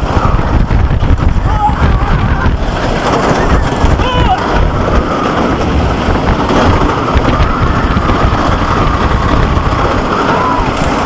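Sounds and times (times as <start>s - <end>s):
roller coaster rattling rumble: 0.0s - 11.0s.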